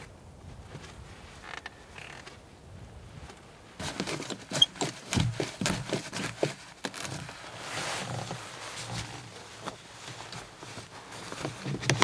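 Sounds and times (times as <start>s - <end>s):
rustle of camera gear: 0.7s - 2.4s, 3.2s - 12.0s.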